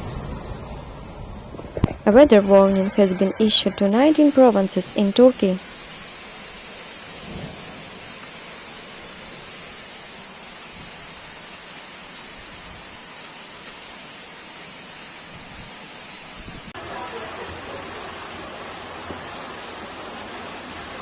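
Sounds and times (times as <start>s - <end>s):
heavy rain downpour: 0.0s - 21.0s.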